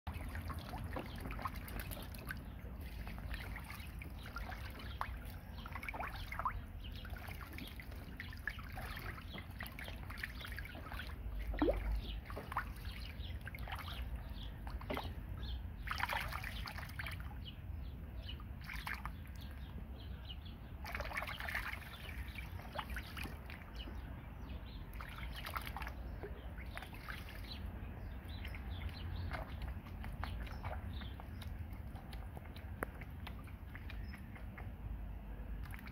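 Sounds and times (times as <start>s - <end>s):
ducklings splashing in water: 0.1s - 35.9s.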